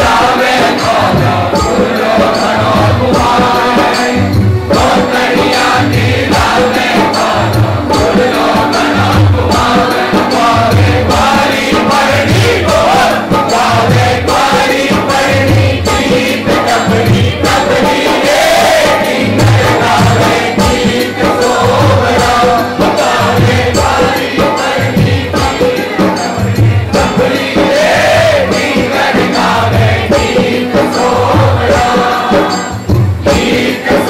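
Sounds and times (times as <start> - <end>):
group singing devotional song: 0.0 - 34.0
lead voice on microphone: 0.0 - 34.0
percussion steady beat: 0.0 - 34.0.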